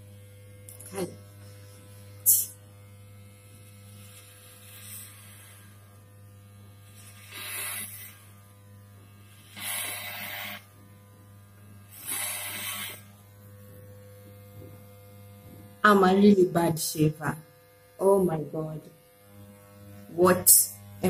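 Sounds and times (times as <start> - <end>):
electric hair clippers buzzing: 0.0 - 21.0
clipper blades cutting hair: 0.2 - 21.0.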